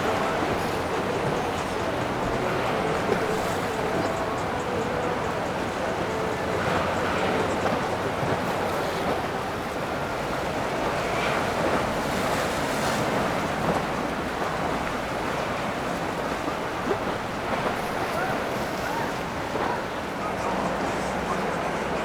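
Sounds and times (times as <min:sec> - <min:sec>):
boat engine rumble: 0:00.0 - 0:22.0
water washing: 0:00.0 - 0:22.0.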